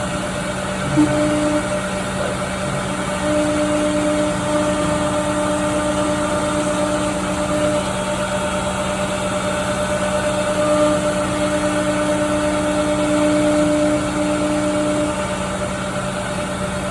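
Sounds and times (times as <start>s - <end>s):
cnc router humming: 0.0s - 16.9s.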